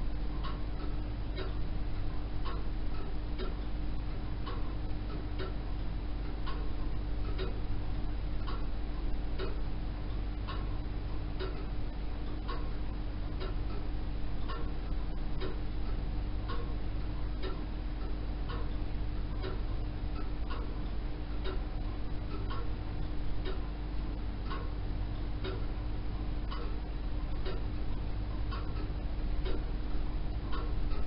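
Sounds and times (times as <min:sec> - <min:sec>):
pendulum clocks ticking: 0:00.0 - 0:31.0
steady low hum: 0:00.0 - 0:31.0.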